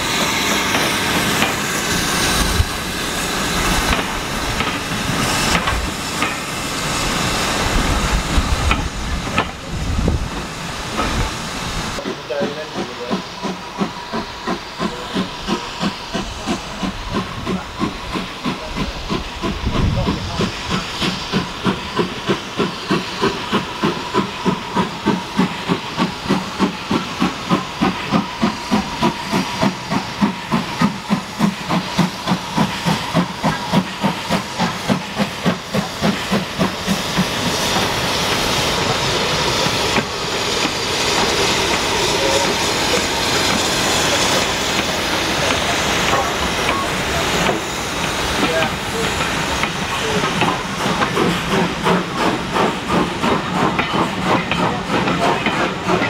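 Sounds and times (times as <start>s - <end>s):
steam hiss and rumble: 0.0s - 56.0s
steam locomotive chuffing: 0.0s - 56.0s.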